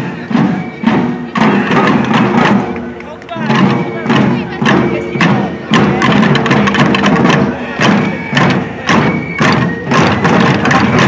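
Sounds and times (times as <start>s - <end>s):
marching drums in unison: 0.0s - 11.0s.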